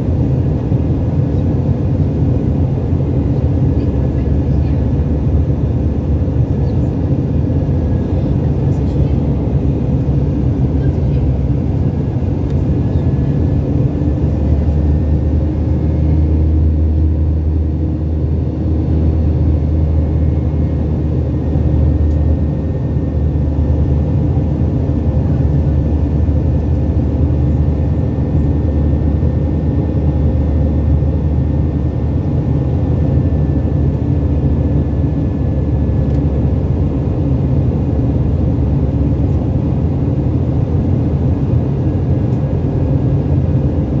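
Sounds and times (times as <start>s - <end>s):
airliner engines and airflow rumble: 0.0s - 44.0s.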